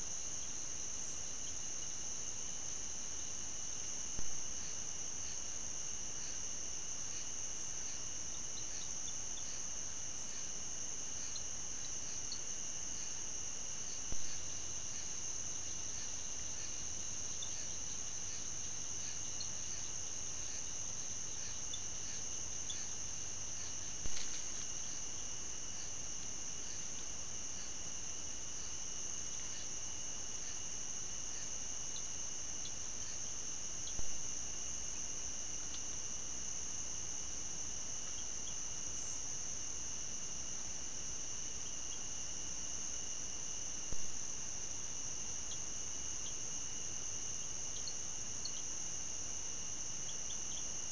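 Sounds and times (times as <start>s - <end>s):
night insects chirping: 0.0s - 50.9s.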